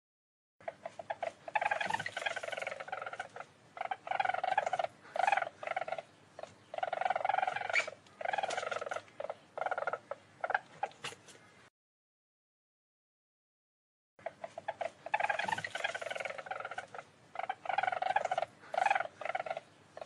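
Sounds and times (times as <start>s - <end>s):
weasel trilling calls: 0.6s - 11.0s, 14.2s - 20.0s.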